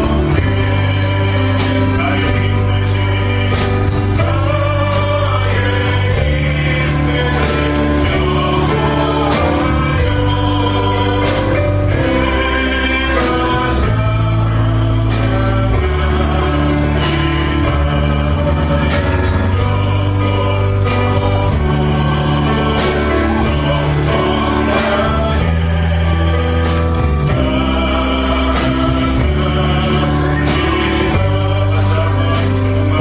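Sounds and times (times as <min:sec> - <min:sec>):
sustained bass notes: 0:00.0 - 0:33.0
voices singing worship song: 0:00.0 - 0:33.0.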